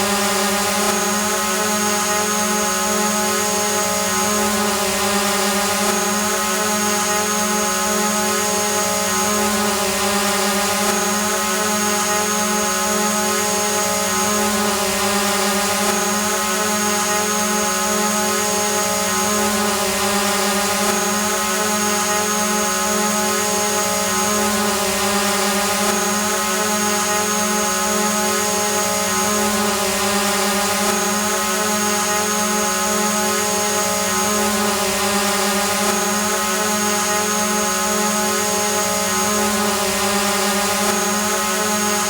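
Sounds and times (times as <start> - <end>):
drone propellers buzzing: 0.0 - 42.0.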